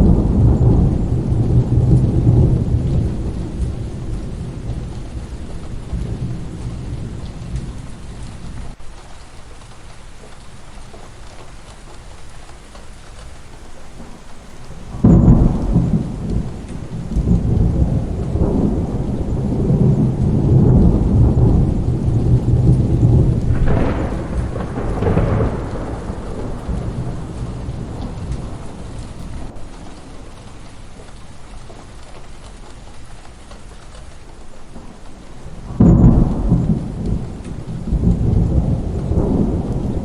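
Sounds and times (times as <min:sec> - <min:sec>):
steady rain: 0:00.0 - 0:40.0
thunder rumbling and cracking: 0:00.0 - 0:40.0.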